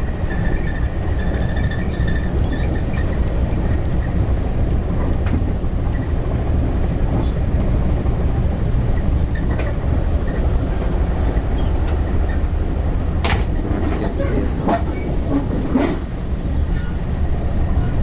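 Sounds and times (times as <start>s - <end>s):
train rumbling inside coach: 0.0s - 18.0s
wheels clicking on rails: 0.0s - 18.0s.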